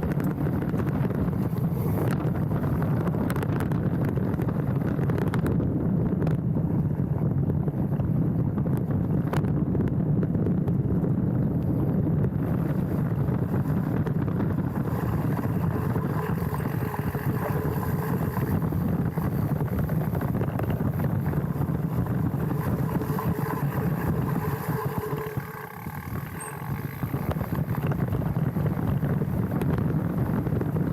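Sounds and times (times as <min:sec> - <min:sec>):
bike tyres rumbling over dirt: 0:00.0 - 0:30.9
wind on microphone: 0:00.0 - 0:30.9.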